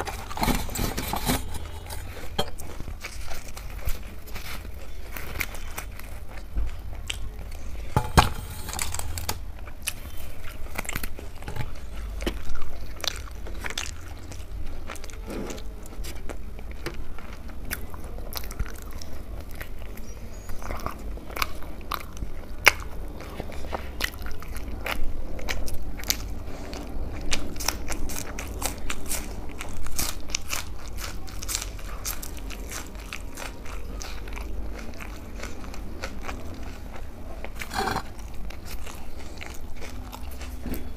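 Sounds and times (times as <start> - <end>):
crunchy bread chewing: 0.0 - 40.9.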